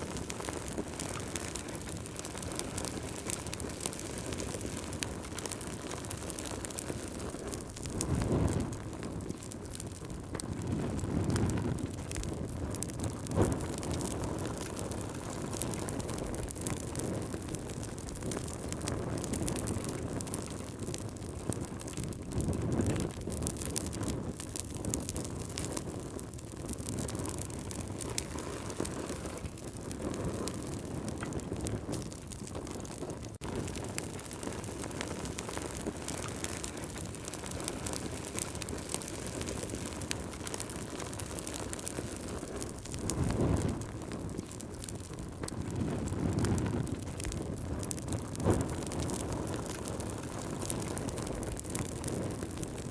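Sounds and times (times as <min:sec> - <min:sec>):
campfire crackling and popping: 0:00.0 - 0:52.9
fire low rushing: 0:00.0 - 0:52.9.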